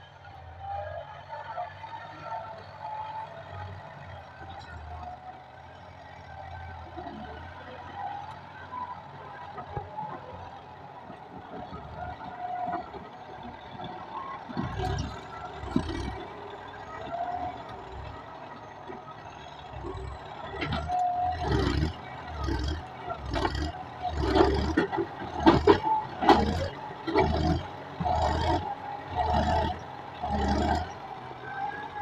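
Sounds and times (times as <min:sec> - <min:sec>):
tractor running: 0:00.0 - 0:32.0.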